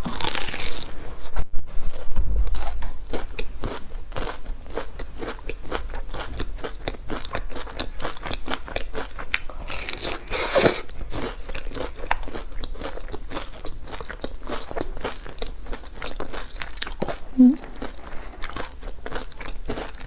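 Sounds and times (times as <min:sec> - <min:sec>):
crunchy food chewing: 0:00.0 - 0:20.0.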